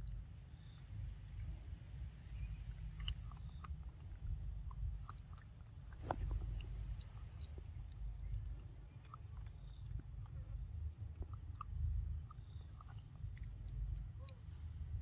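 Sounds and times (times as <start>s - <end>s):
monkey chewing clicks: 2.3s - 15.0s.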